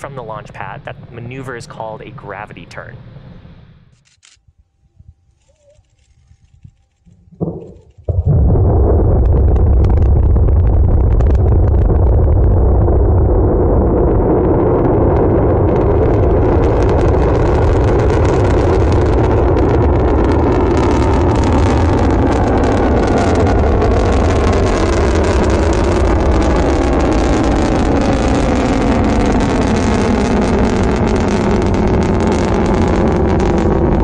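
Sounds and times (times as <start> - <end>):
rocket engine rumble with crackling: 0.0 - 34.0.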